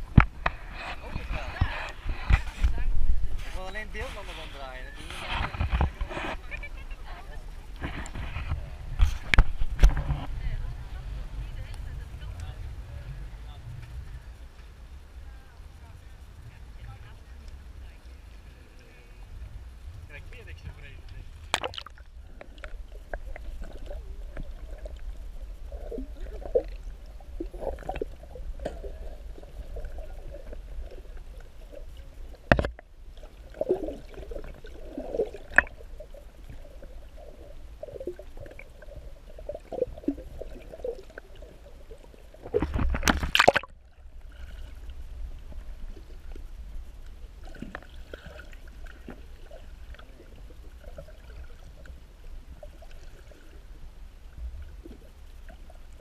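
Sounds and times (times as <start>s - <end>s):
faint gurgles: 0.0s - 56.0s
muffled underwater rumble: 0.0s - 56.0s
water rush: 0.0s - 56.0s.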